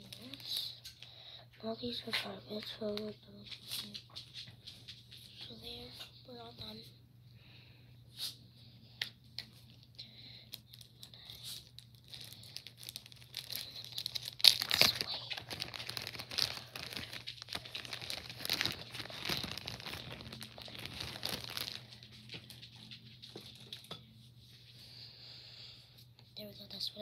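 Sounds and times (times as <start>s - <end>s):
crinkling and rustling: 0.0s - 6.8s, 9.3s - 24.8s.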